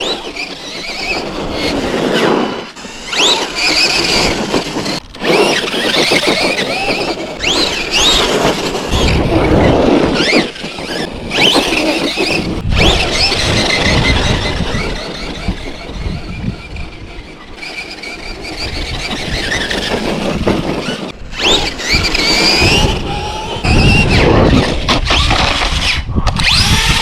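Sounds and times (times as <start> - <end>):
tyres rumbling on ground: 0.0 - 25.8
electric motor whining: 0.0 - 27.0.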